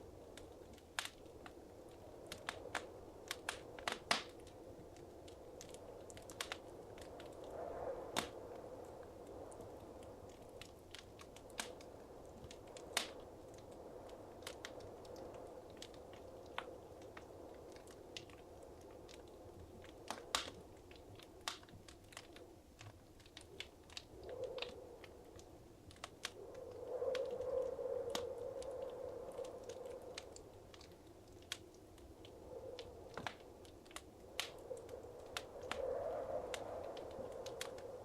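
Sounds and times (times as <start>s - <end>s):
fire pops and snaps: 0.1s - 38.0s.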